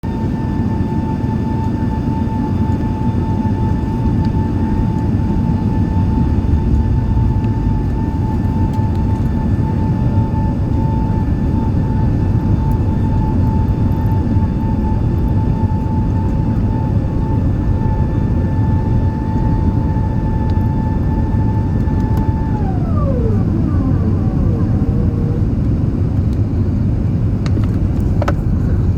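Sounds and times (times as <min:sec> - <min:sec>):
jet engines rumbling and whining: 0:00.0 - 0:28.9.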